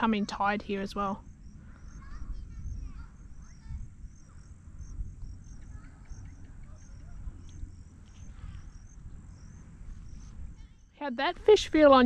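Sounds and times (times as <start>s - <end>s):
crickets chirping: 0.0s - 12.0s
low rumble: 0.8s - 11.0s.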